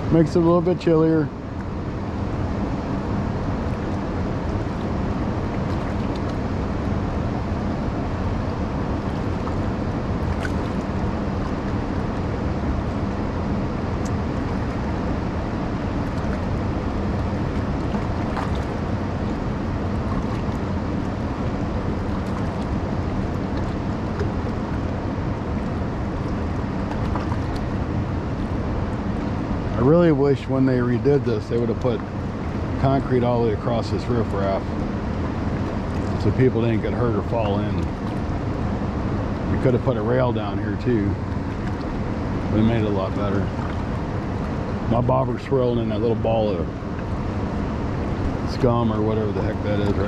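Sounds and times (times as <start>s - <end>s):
water rushing from spillway: 8.2s - 50.0s.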